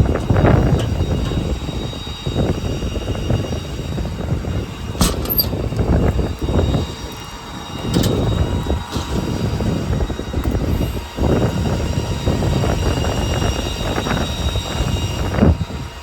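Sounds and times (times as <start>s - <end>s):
diesel truck rumbling: 0.0s - 16.0s
faint machinery whine: 0.0s - 16.0s.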